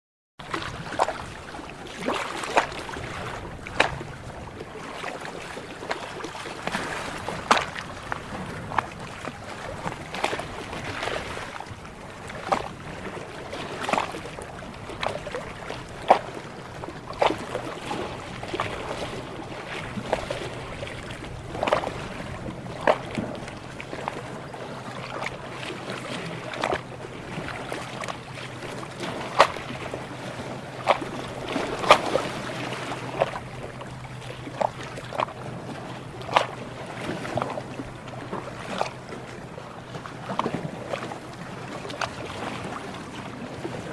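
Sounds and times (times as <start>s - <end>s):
sea water lapping and splashing: 0.4s - 43.9s.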